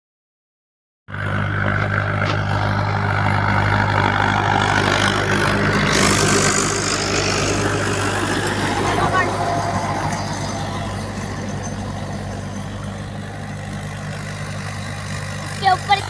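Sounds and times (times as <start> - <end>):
broad noise: 1.1 - 16.0
tractor diesel engine running: 1.1 - 16.0.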